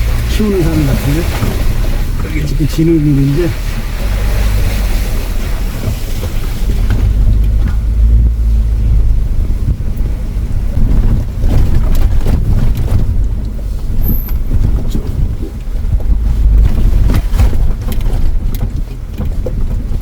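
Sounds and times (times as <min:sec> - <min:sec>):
car knocking and rattling: 0:00.0 - 0:20.0
engine and tyres rumbling: 0:00.0 - 0:20.0.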